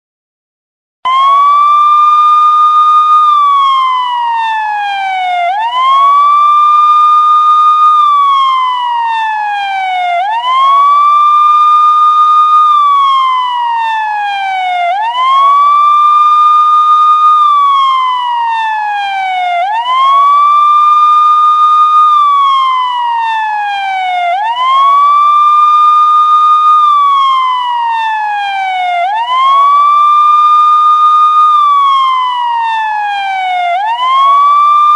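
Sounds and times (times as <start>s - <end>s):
police siren wailing: 1.1s - 34.9s.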